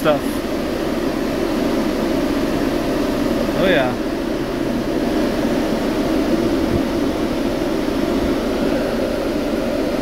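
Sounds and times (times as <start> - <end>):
refrigeration fans blowing: 0.0 - 10.0.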